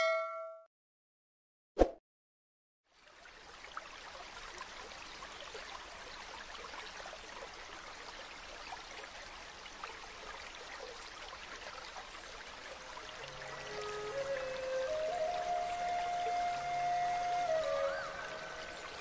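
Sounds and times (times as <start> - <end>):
running water: 2.9 - 19.0.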